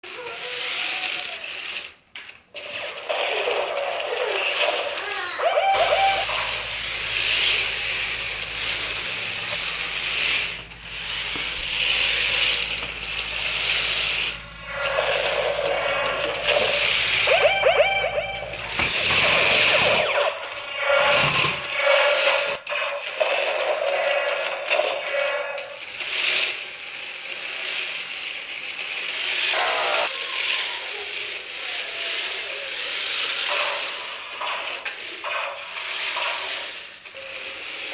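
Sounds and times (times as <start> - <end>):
plastic wheels rattling: 0.0 - 37.9
toy car motor whirring: 0.0 - 37.9.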